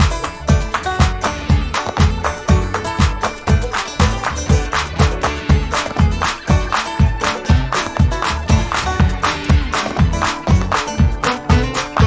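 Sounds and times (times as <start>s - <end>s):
background music with steady beat: 0.0s - 12.0s
plucked guitar-like notes: 0.0s - 12.0s.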